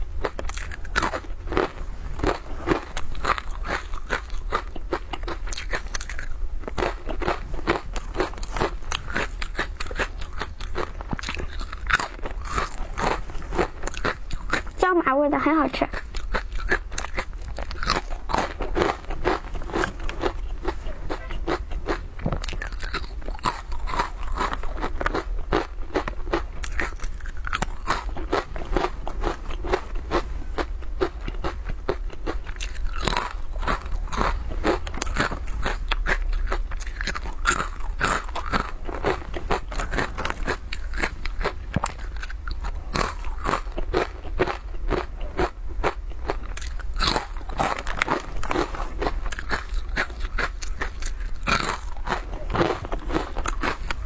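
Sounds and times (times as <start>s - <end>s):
crunching and chewing crispy snack: 0.0s - 14.8s, 15.8s - 54.0s.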